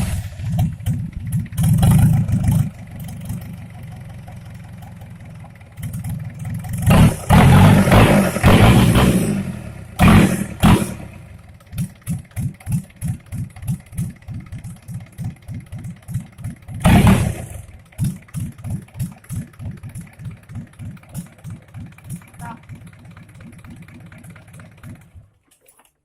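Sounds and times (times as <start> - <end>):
engine revving: 0.0 - 3.6, 5.8 - 25.2
diesel engine idling: 0.0 - 25.4.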